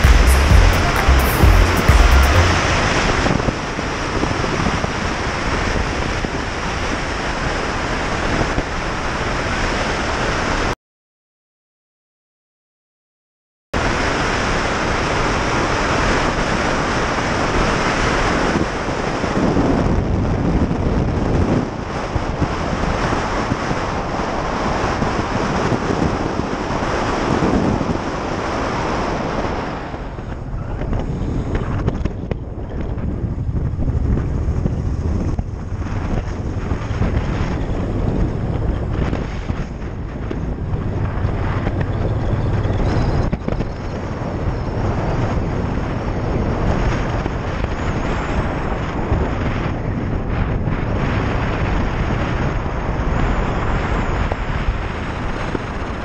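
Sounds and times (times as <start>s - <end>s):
wind rushing over microphone: 0.0s - 10.8s, 13.8s - 56.0s.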